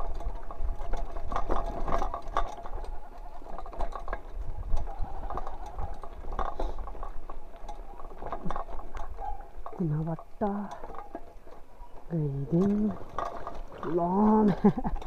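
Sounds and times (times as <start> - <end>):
bike rattling over bumps: 0.0 - 15.0
tyres crunching on dirt: 0.0 - 15.0.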